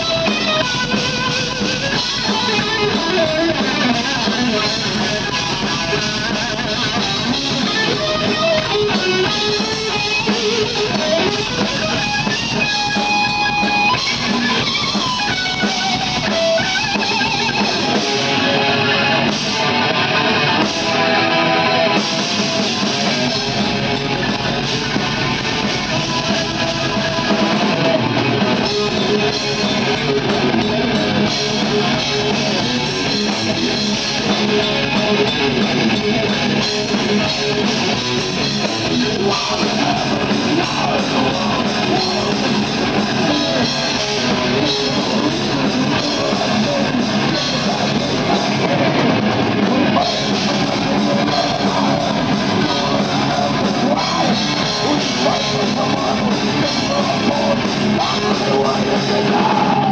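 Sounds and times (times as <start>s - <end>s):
bass guitar: 0.0s - 59.9s
distorted electric guitar: 0.0s - 59.9s
drum kit: 0.0s - 59.9s.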